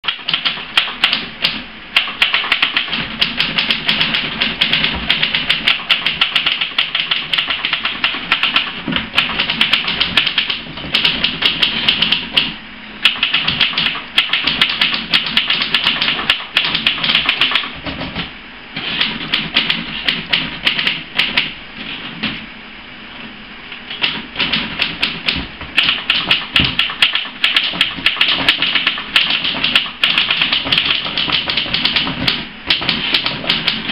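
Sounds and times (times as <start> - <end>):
typewriters clattering: 0.0 - 22.4, 23.9 - 33.9.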